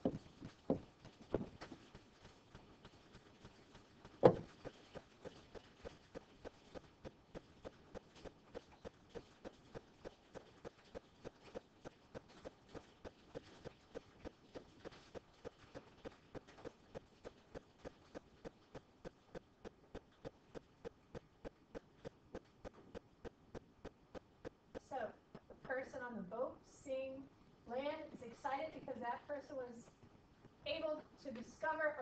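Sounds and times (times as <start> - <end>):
faint steady ticking: 0.0 - 32.0.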